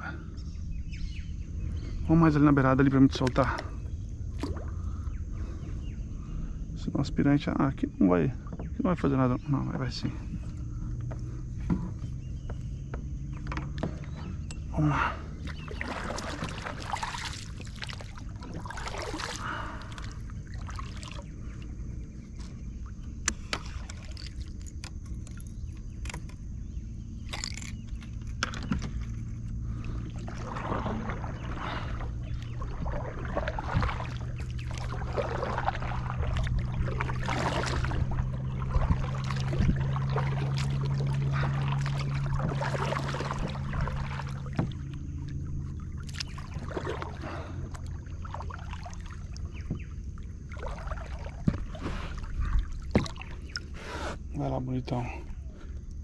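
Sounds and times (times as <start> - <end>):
paddle water swishing and sloshing: 0.0 - 6.7, 7.9 - 56.0
steady low hum: 0.0 - 56.0.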